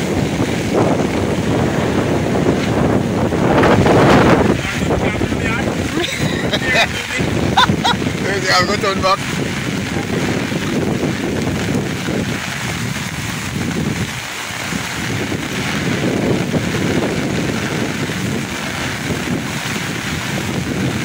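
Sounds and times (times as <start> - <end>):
floodwater rushing: 0.0 - 21.0
wind buffeting microphone: 0.0 - 21.0.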